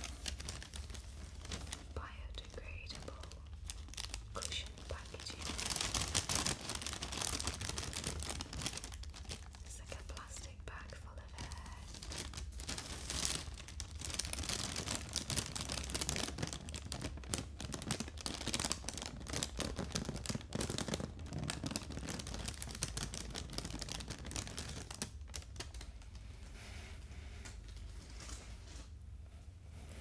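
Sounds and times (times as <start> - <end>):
plastic packing pillow crinkling: 0.0 - 29.1.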